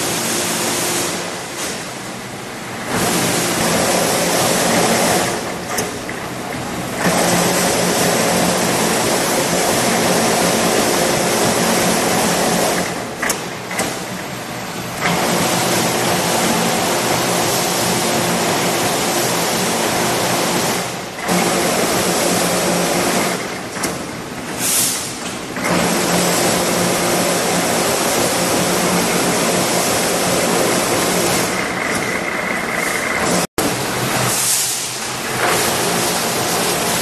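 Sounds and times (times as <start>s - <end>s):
wire cutting machine running: 0.0s - 37.0s.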